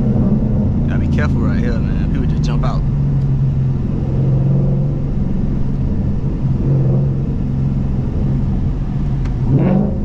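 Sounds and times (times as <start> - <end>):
car exhaust drone at cruise: 0.0 - 10.0.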